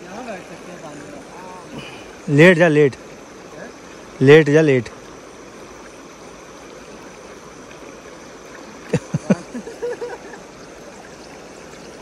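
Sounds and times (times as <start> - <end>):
river flowing over stones: 0.0 - 12.0.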